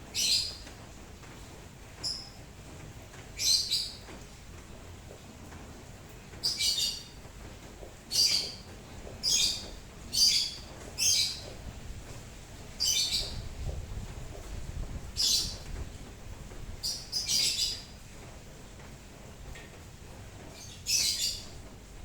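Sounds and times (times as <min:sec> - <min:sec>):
rain patter: 0:00.0 - 0:22.0.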